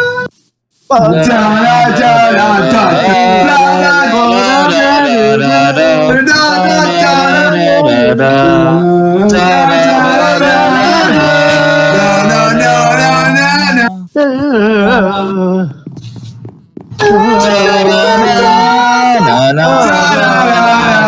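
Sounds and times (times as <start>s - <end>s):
person singing: 0.9s - 15.9s, 17.0s - 21.0s.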